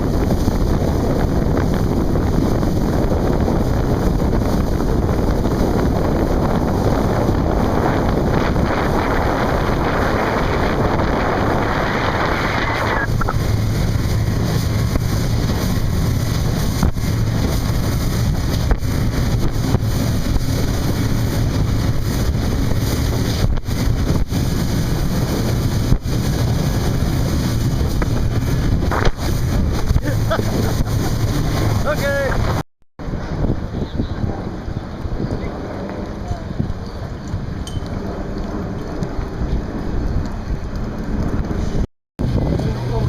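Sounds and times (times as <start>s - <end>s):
outboard engines droning: 0.0s - 43.0s
wind rushing over microphone: 0.0s - 43.0s.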